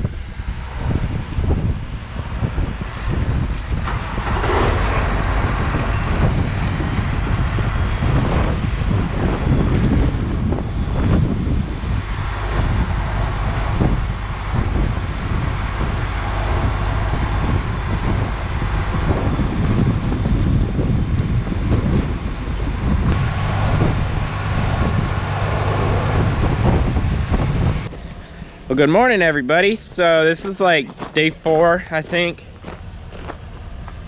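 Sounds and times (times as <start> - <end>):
diesel engine running: 0.0 - 34.0
wind buffeting microphone: 0.0 - 34.0.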